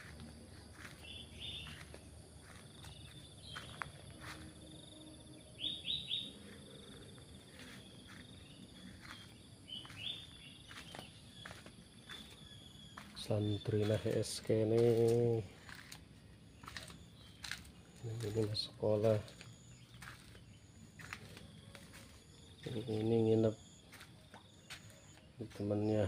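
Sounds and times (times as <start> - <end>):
bird chirping: 0.0 - 26.0
high insect trill: 0.0 - 26.0.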